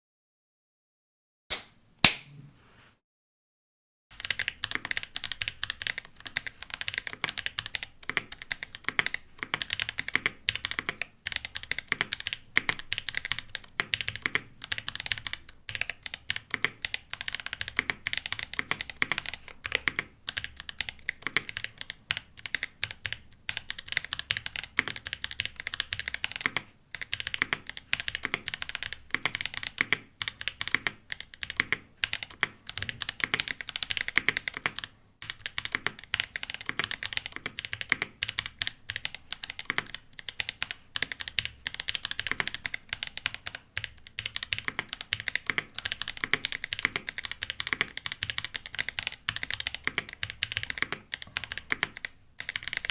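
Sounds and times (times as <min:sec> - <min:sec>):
mechanical keyboard typing: 0:04.1 - 0:52.9.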